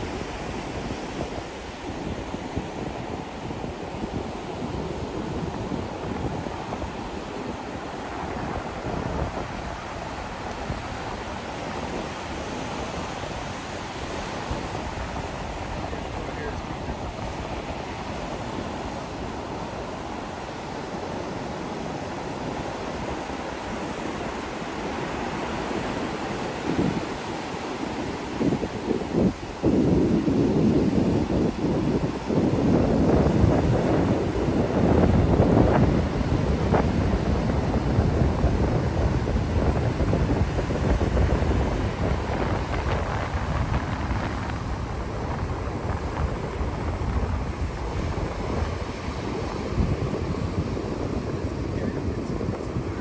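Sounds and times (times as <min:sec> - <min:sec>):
ocean surf breaking on beach: 0:00.0 - 0:53.0
wind buffeting microphone: 0:00.0 - 0:53.0.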